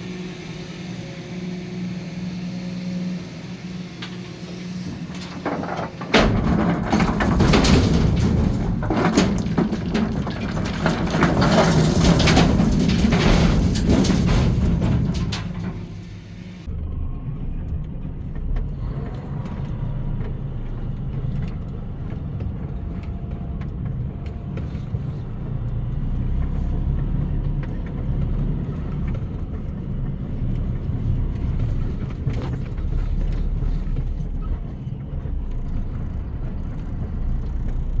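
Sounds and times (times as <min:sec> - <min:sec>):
diesel machinery rumbling: 0:00.0 - 0:38.0.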